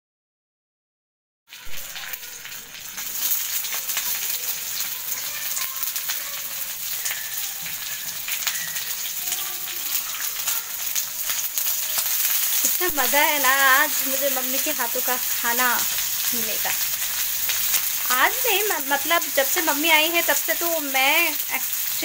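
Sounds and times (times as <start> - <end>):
oil sizzling in a frying pan: 1.5 - 22.0.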